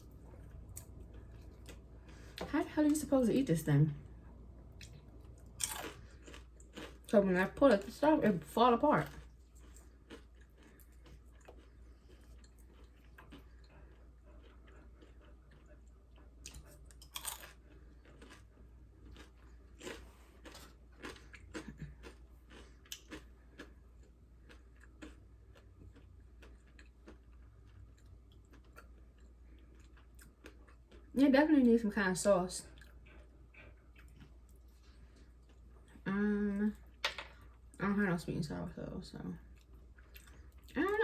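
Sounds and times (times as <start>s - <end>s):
chewing and biting fried food: 0.0s - 2.5s, 4.6s - 31.2s, 32.6s - 36.0s, 39.5s - 40.8s.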